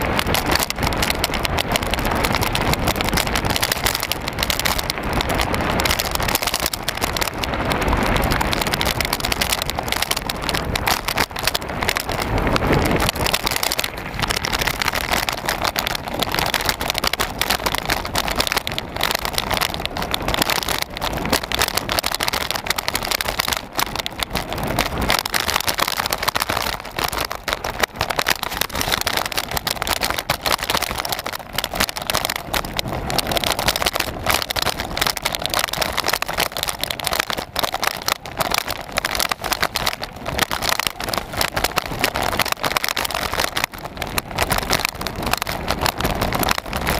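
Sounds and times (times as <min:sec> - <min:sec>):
bike rattling and knocking: 0:00.0 - 0:46.9
bike tyre noise: 0:00.0 - 0:46.9.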